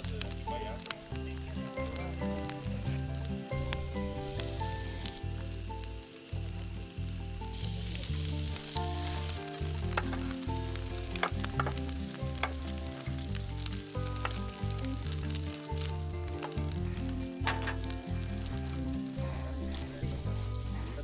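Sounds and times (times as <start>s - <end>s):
background music: 0.0s - 21.0s
food sizzling on a griddle: 0.0s - 21.0s.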